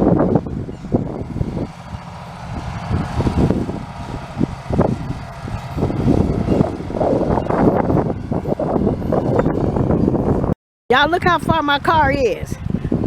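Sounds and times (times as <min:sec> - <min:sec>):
heavy vehicle engine running: 0:00.0 - 0:10.6, 0:11.2 - 0:13.0.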